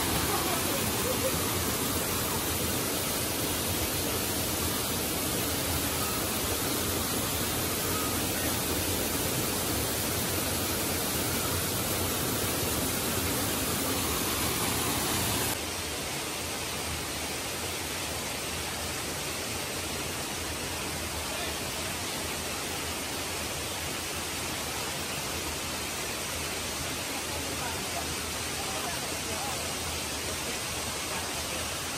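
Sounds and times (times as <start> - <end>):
waterfall and river water rushing: 0.0 - 31.9.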